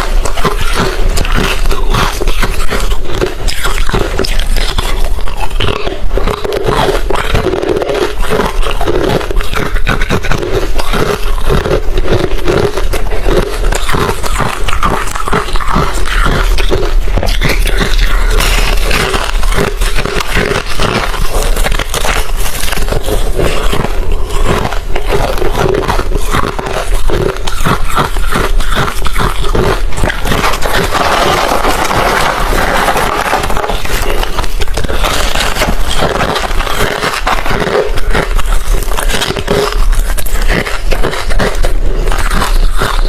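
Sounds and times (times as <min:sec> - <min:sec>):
ice being chewed: 0:00.0 - 0:43.0.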